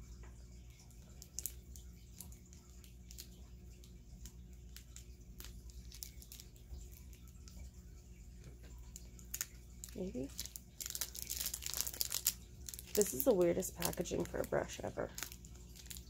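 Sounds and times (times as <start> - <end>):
low steady hum: 0.0 - 16.0
packaging clicks and rustles: 1.0 - 7.7, 8.6 - 16.0.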